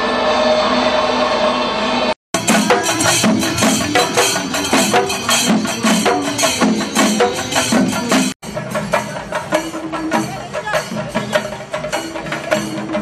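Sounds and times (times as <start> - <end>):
drums beaten fast with sticks: 2.4 - 13.0.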